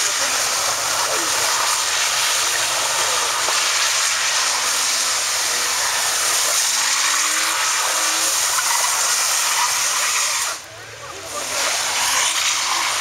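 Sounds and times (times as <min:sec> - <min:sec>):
hiss of spinning tyres and spray: 0:00.0 - 0:13.0.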